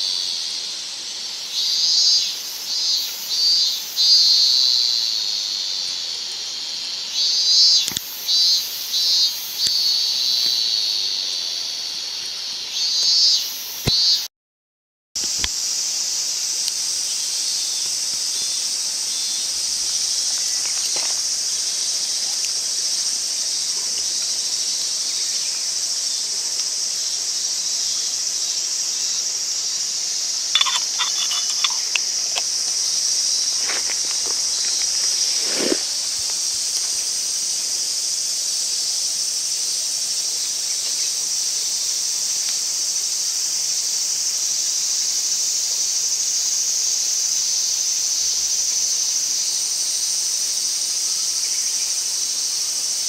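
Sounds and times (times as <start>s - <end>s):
insects buzzing chorus: 0.0s - 14.3s, 15.2s - 53.0s.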